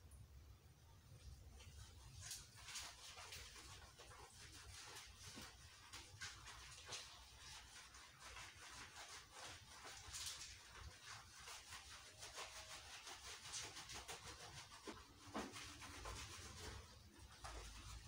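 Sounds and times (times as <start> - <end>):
hands scrubbing wet fur: 1.2 - 18.0.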